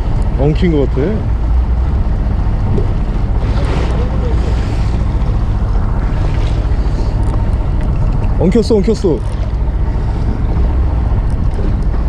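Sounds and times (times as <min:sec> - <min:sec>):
boat engine running: 0:00.0 - 0:12.0
waves washing: 0:00.0 - 0:12.0
wind buffeting microphone: 0:00.0 - 0:12.0.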